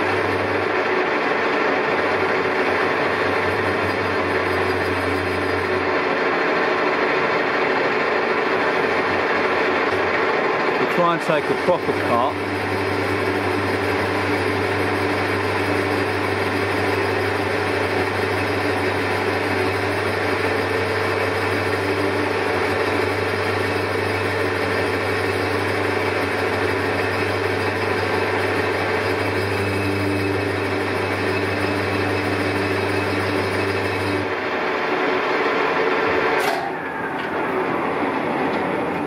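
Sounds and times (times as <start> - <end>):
lathe motor hum: 0.0 - 39.0
lathe tool cutting metal: 0.0 - 39.0.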